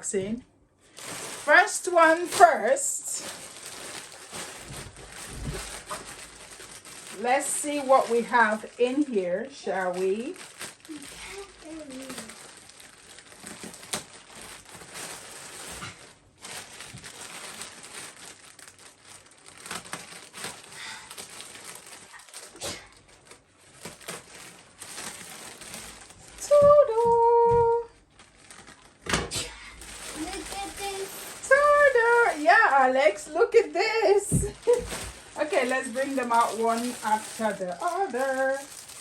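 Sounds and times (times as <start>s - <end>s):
plastic mailer crinkling and tearing: 0.8s - 39.0s.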